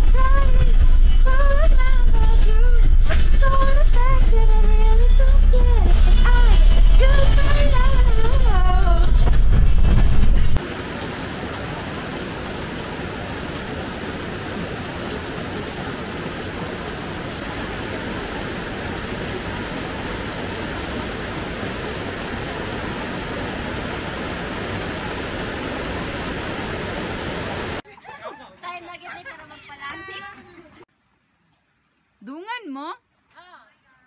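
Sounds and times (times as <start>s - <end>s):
heavy rain falling: 0.0s - 27.8s.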